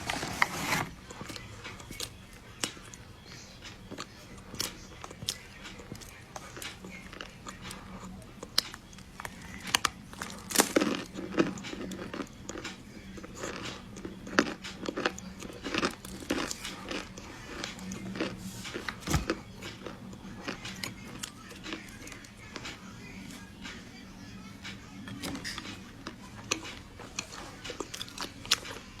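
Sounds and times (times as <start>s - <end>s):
chewing chocolate crunches: 1.1s - 23.8s, 25.1s - 29.0s.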